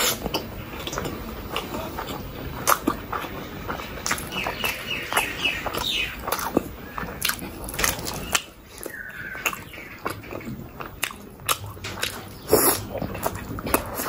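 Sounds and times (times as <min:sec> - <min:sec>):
big bite into food: 0:00.0 - 0:03.3, 0:04.0 - 0:14.0
person chewing food: 0:00.0 - 0:14.0.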